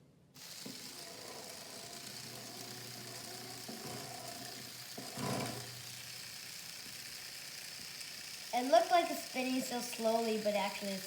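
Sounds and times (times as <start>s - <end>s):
toy electric chainsaw whirring: 0.4s - 11.0s.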